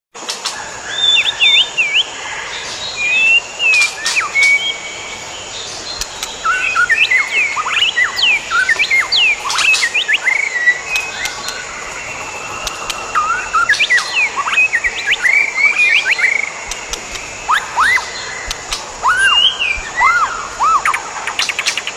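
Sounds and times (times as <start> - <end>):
bird singing whistled notes: 0.4 - 21.9.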